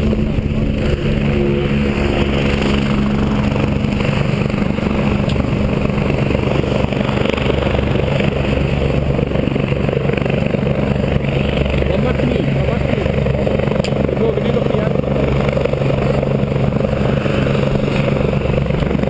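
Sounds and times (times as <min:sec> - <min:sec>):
helicopter turbine and rotor running: 0:00.0 - 0:19.0.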